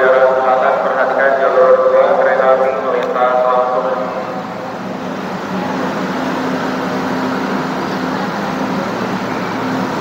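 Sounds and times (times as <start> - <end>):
continuous rumble: 0.0 - 10.0.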